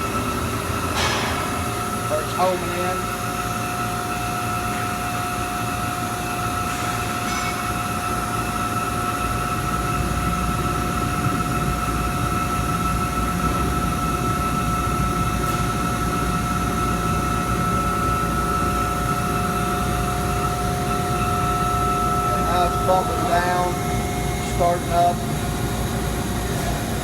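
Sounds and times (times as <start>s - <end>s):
laser cutting machine humming: 0.0s - 27.0s.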